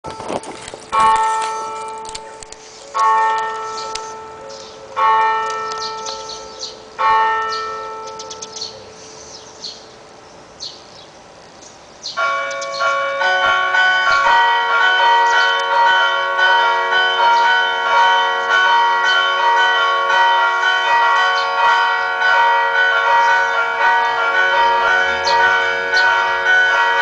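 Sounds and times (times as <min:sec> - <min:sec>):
church bells ringing: 0:00.0 - 0:10.1, 0:12.2 - 0:27.0.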